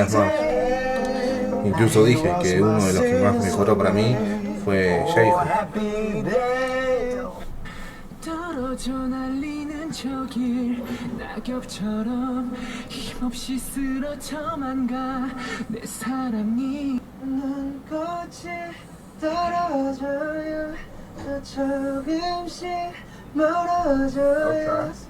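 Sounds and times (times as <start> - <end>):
young man singing a cappella: 0.0 - 25.0.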